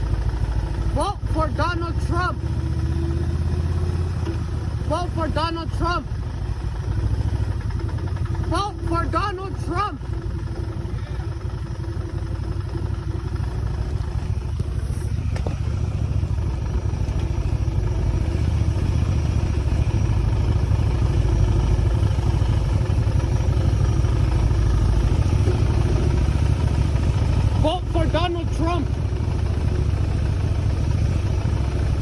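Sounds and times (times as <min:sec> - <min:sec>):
motorcycle engine rumble: 0:00.0 - 0:32.0.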